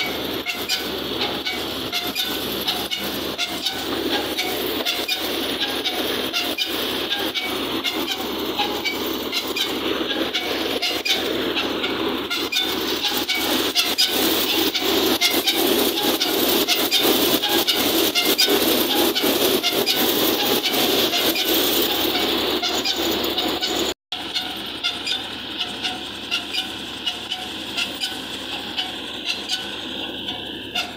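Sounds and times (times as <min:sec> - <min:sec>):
thresher rumble: 0:00.0 - 0:30.9.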